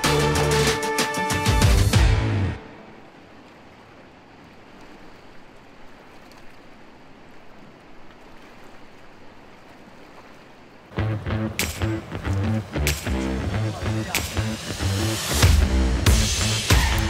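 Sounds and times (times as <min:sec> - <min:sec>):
fast-flowing river water: 0:00.0 - 0:17.0.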